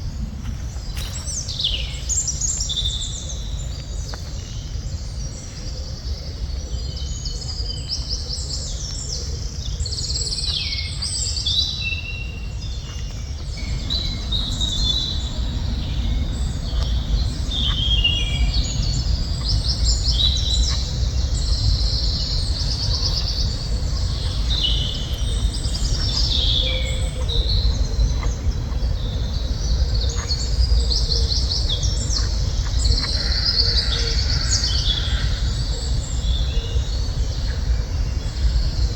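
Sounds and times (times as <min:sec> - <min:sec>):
songbirds chirping and singing: 0:00.0 - 0:38.9
steady low rumble: 0:00.0 - 0:38.9.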